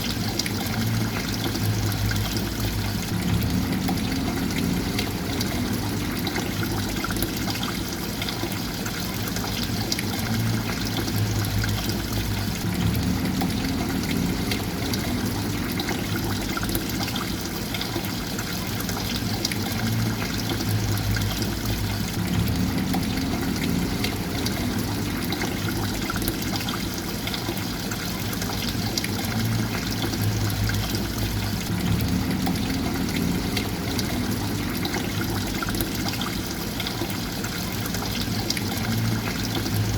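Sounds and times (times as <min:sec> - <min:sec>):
low water gurgle: 0:00.0 - 0:39.9
water trickling and splashing: 0:00.0 - 0:39.9.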